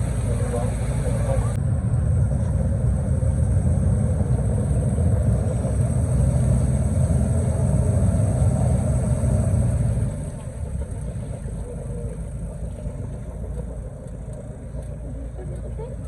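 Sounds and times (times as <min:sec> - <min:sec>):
boat engine rumble: 0:00.0 - 0:16.0.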